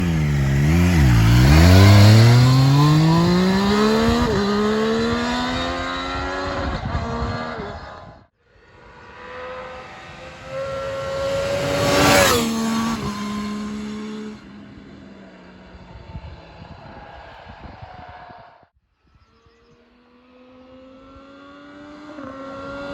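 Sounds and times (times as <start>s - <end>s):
motorcycle passing by: 0.0s - 8.2s, 8.8s - 17.0s, 19.7s - 22.9s
motorcycle engine accelerating: 0.0s - 17.0s, 19.5s - 22.9s.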